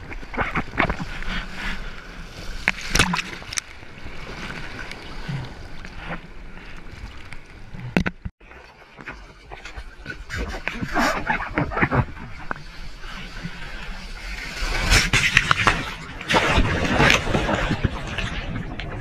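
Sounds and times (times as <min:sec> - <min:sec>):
sea water splashing and sloshing: 0:00.0 - 0:19.0.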